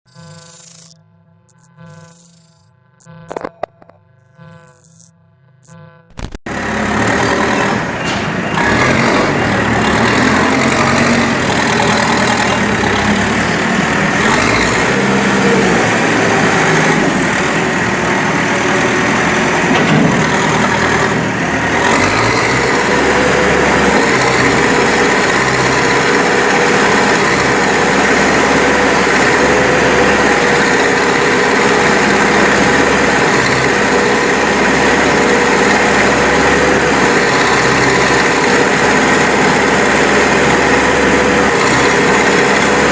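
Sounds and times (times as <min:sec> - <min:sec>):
backhoe loader diesel engine running: 0:06.5 - 0:42.9.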